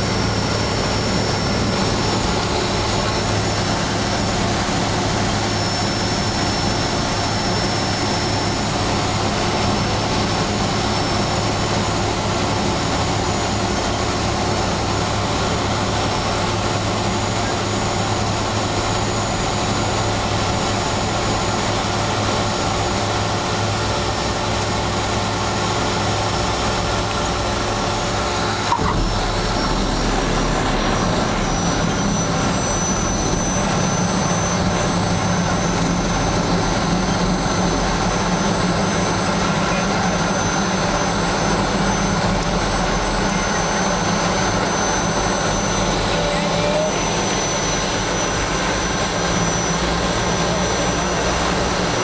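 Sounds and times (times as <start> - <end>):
turboprop engine whine and hum: 0.0 - 52.0.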